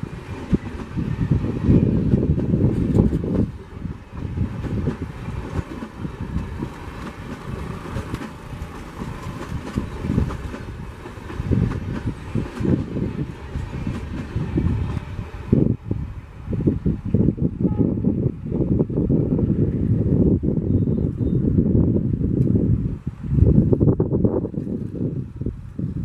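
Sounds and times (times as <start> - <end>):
train rumbling on the track: 0.0 - 26.0.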